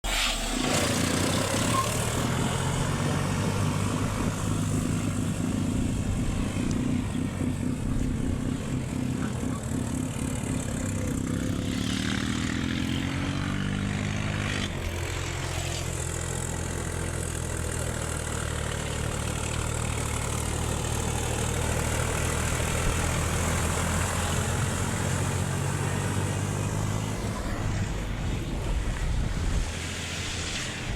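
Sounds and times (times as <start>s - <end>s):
diesel tractor engine running: 0.0s - 30.9s.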